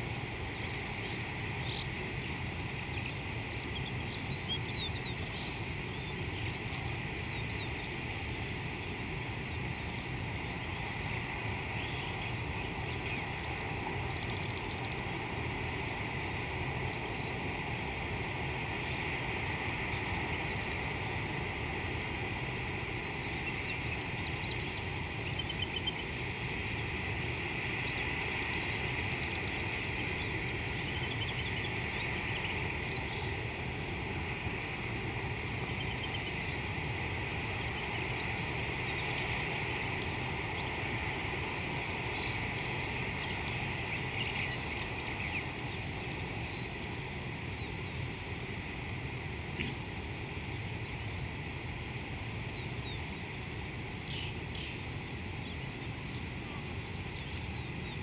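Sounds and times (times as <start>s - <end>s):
continuous high hum: 0.0s - 58.0s
low rumble and hiss: 0.0s - 58.0s.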